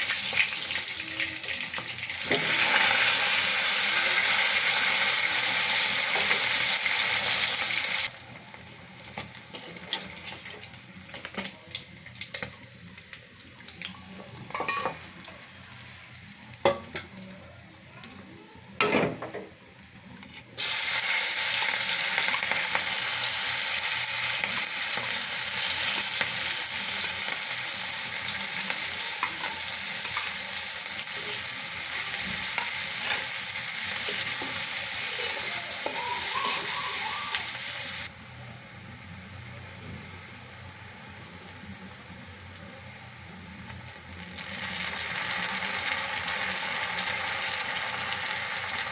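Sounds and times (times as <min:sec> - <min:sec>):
food sizzling in oil: 0:00.0 - 0:17.3, 0:20.6 - 0:38.1, 0:40.2 - 0:48.9.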